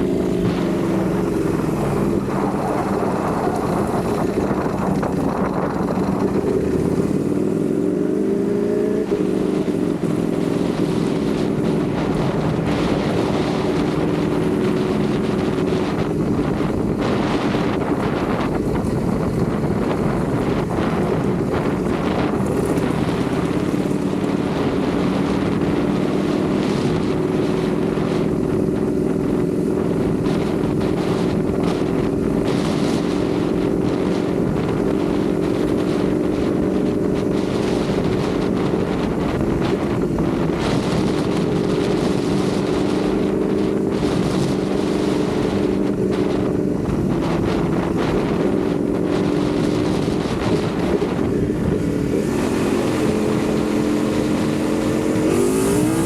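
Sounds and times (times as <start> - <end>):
motorcycle engine cruising: 0.0 - 56.0
wind over microphone: 0.0 - 56.0.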